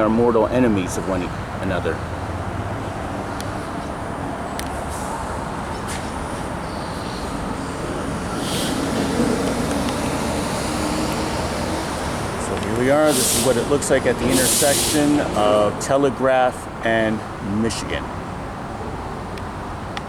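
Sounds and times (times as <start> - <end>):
road traffic noise: 0.0 - 20.0
vehicle engine hum: 0.0 - 20.0.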